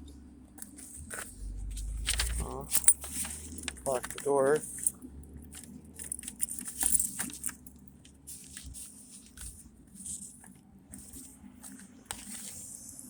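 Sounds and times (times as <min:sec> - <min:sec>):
small clicks and rustles: 0:00.0 - 0:13.0.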